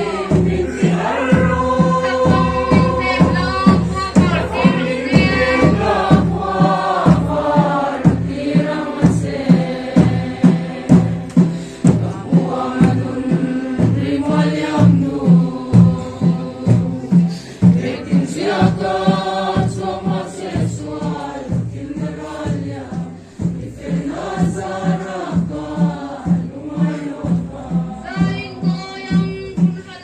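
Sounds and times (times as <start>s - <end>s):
group of voices singing: 0.0s - 30.0s
steady drum beat: 0.0s - 30.0s.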